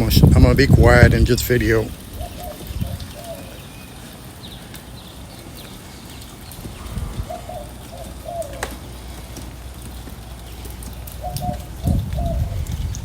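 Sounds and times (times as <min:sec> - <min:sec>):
wind rumbling on microphone: 0:00.0 - 0:13.0
dove cooing: 0:01.9 - 0:13.0.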